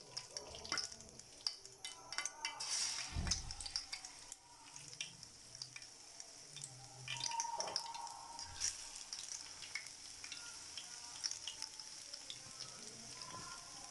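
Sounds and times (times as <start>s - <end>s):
batter sizzling in hot oil: 0.0s - 13.9s
oil popping and crackling: 0.0s - 13.9s.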